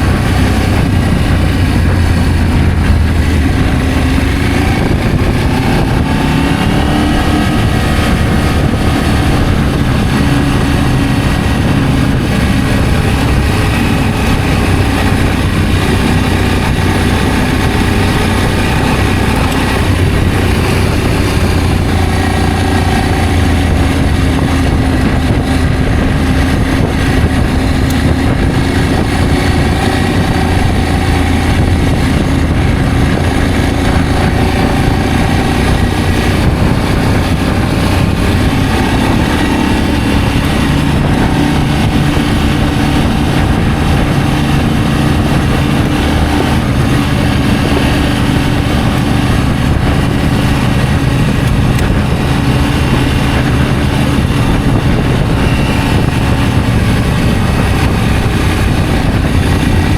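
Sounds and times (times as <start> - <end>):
motorcycle engine running: 0.0 - 59.9
riding wind noise: 0.0 - 59.9.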